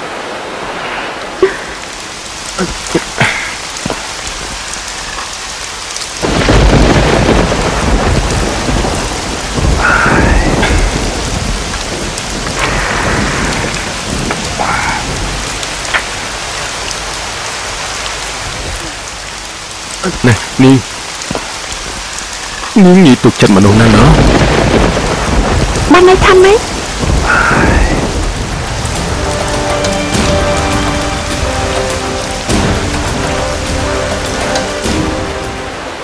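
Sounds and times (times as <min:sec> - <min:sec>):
heavy rain falling: 0:00.0 - 0:36.0
thunder rumbling: 0:00.0 - 0:36.0.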